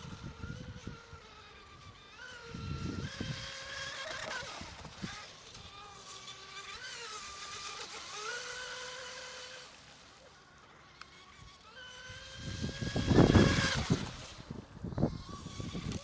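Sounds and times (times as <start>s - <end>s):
rc boat motor whining: 0.0s - 16.0s.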